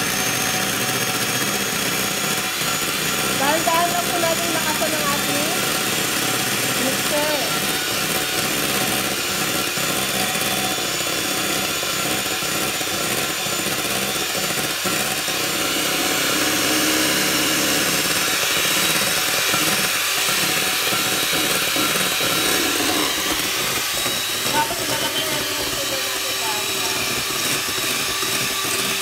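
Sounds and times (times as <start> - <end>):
electric hand mixer running: 0.0 - 29.0.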